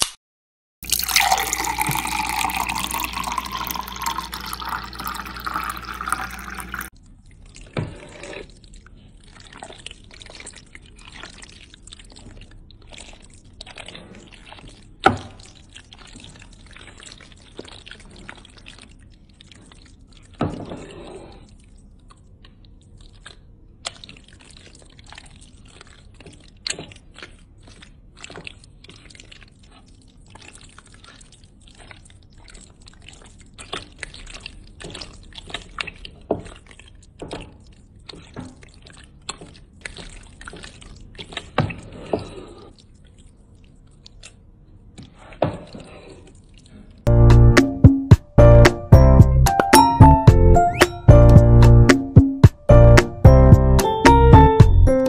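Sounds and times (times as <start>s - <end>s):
salad squelching being stirred: 0.9s - 47.1s.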